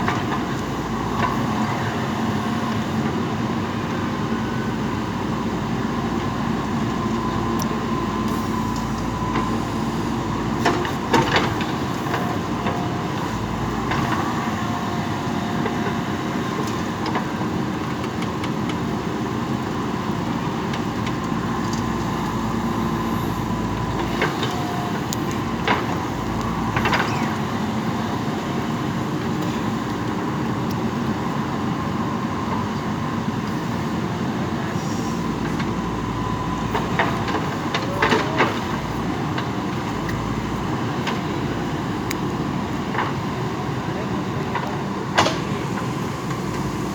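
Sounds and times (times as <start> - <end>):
diesel engine running under load: 0.0 - 46.9.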